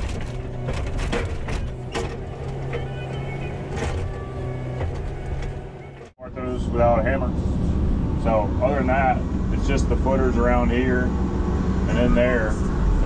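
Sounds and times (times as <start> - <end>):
excavator diesel engine running: 0.0 - 11.6.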